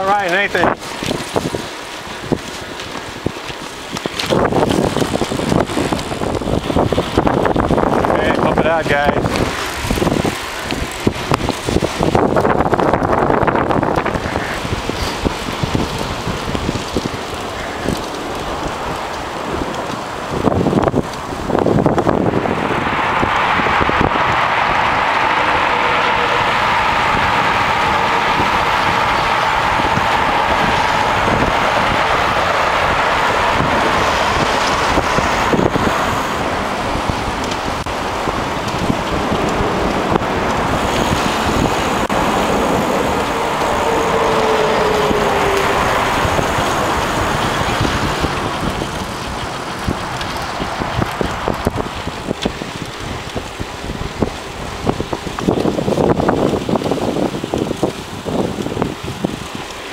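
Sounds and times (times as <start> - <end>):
bicycle tyres on pavement: 0.0 - 59.9
wind over microphone: 0.0 - 59.9.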